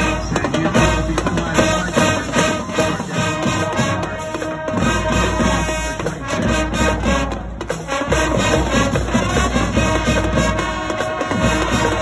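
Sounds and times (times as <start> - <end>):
horns: 0.0 - 12.0
marching band playing: 0.0 - 12.0
steady drum beat: 0.0 - 12.0.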